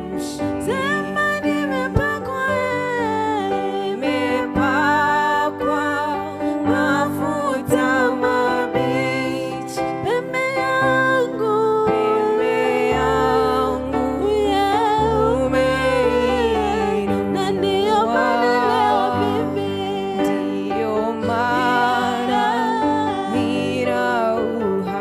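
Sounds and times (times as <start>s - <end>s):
held chords: 0.0s - 25.0s
person singing gospel melody: 0.0s - 25.0s.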